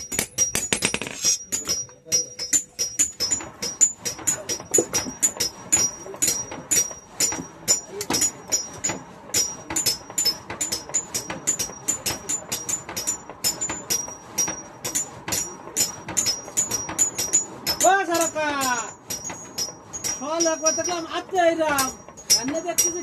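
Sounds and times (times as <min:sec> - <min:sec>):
hammers striking iron on anvil: 0:00.0 - 0:23.0.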